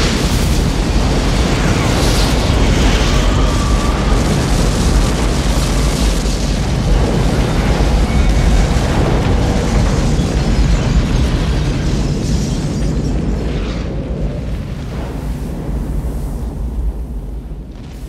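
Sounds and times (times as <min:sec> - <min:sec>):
deep explosion rumble: 0:00.0 - 0:18.0.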